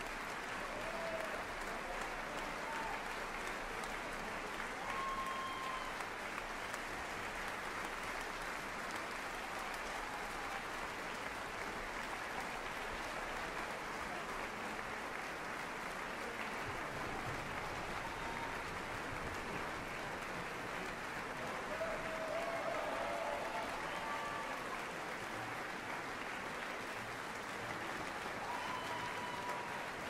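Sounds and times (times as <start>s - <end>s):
audience applauding: 0.0s - 30.0s.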